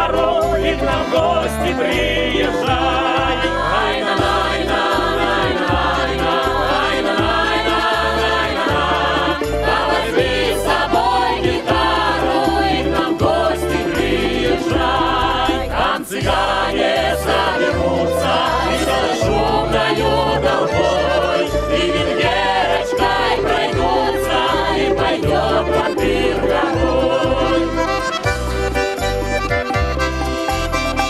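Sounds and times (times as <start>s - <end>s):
choir singing: 0.0s - 28.3s
accordion: 0.0s - 31.0s
string band: 0.0s - 31.0s.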